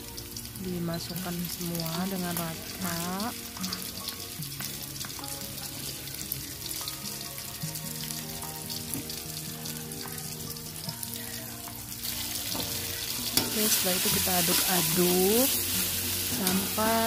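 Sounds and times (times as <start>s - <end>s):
food sizzling in hot oil: 0.0s - 17.0s
soft background music: 0.0s - 17.0s.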